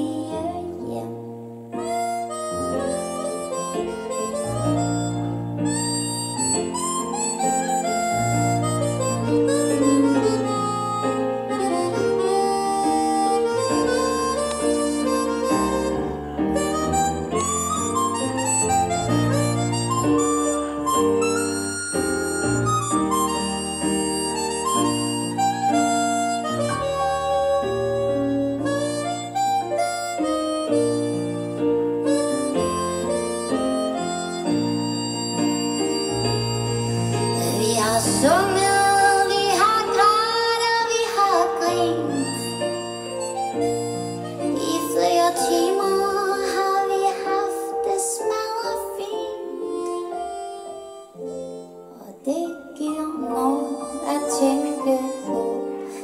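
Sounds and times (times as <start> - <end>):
harmonica melody: 0.0 - 56.0
instrumental accompaniment: 0.0 - 56.0.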